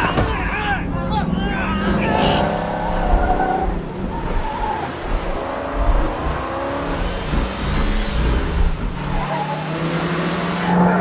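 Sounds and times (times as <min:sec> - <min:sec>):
dense low rumble: 0:00.0 - 0:09.3
car engines revving: 0:00.0 - 0:11.0.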